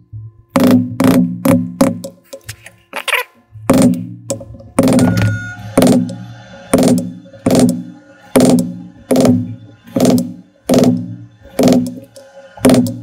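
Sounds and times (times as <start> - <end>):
mallet striking metal stamp: 0.5 - 2.2, 3.6 - 13.0.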